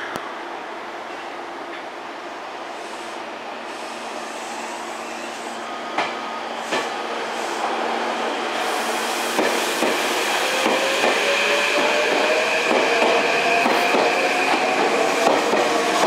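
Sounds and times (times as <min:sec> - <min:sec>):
electric train pulling out: 0:02.7 - 0:16.0.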